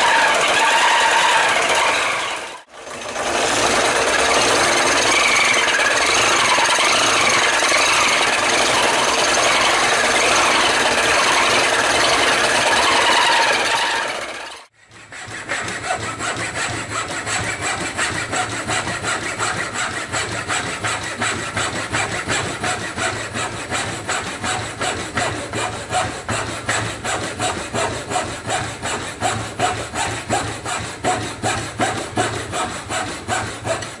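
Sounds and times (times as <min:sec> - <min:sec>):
scroll saw cutting wood: 0:00.0 - 0:34.0.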